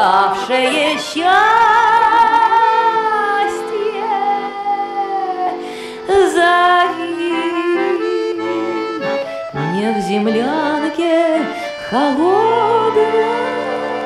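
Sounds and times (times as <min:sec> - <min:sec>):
piano accordion playing: 0:00.0 - 0:14.0.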